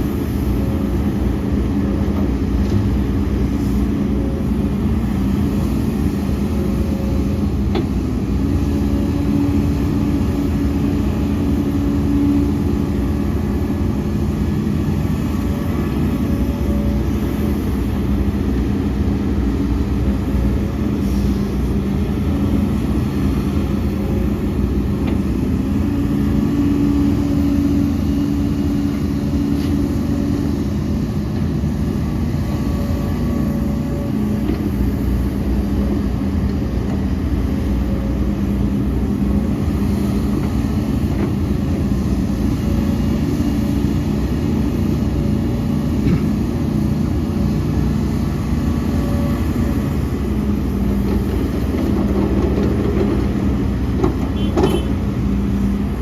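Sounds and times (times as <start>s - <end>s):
diesel earthmoving machinery running: 0.0s - 56.0s.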